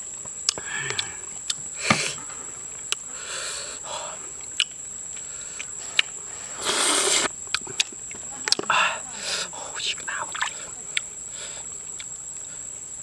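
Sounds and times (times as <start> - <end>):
high-pitched insect call: 0.0 - 13.0.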